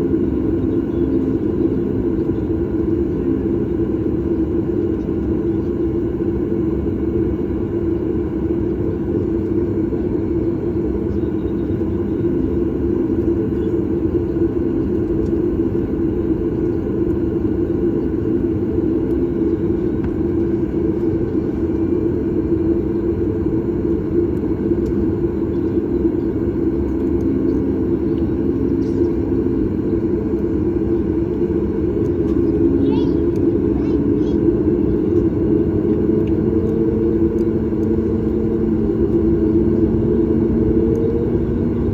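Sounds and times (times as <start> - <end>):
airplane cabin engine rumble: 0.0 - 41.9
constant low hum: 0.0 - 41.9.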